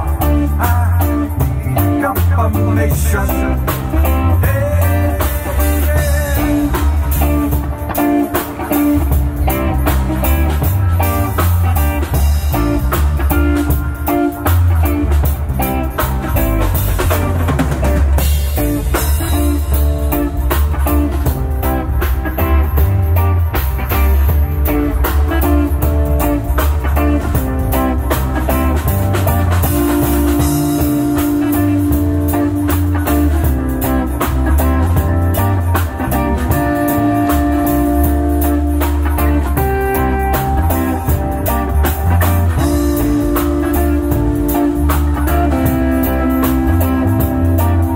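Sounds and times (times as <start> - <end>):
bass guitar: 0.0 - 47.9
drum kit beat: 0.0 - 47.9
electric guitar: 0.0 - 47.9.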